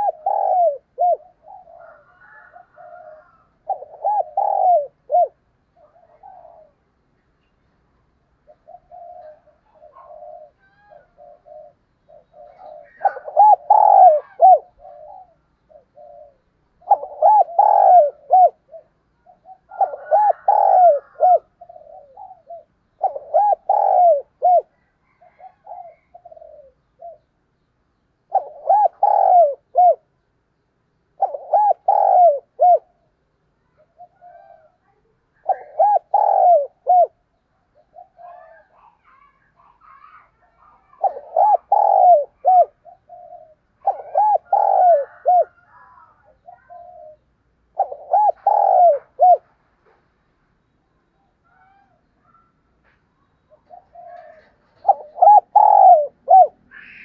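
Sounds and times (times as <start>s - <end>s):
dove cooing: 0.0s - 6.9s, 8.4s - 27.4s, 28.2s - 30.2s, 31.1s - 50.0s, 53.5s - 57.0s.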